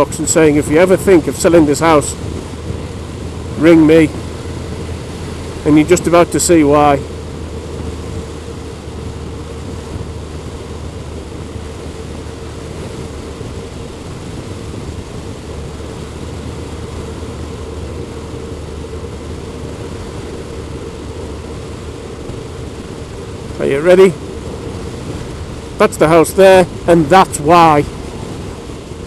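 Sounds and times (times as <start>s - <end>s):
motorcycle engine cruising: 0.0s - 29.0s
wind noise: 0.0s - 29.0s.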